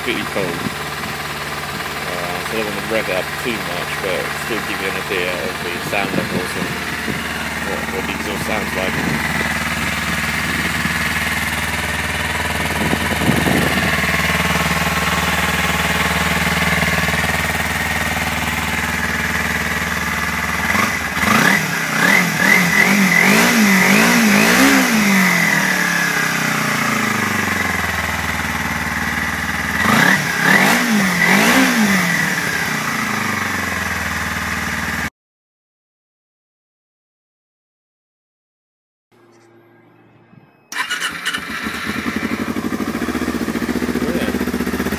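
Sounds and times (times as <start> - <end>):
motorcycle engine idling and revving: 0.0 - 35.1, 40.7 - 44.9.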